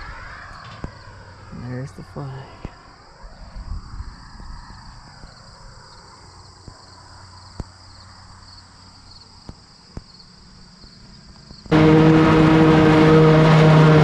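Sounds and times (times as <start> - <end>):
insects trilling: 0.0 - 11.7.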